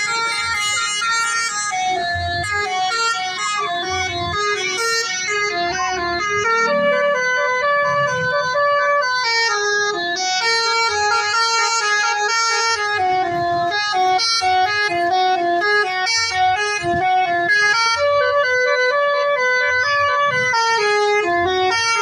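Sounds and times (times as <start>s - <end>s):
multi-tone bus horn melody: 0.0s - 22.0s.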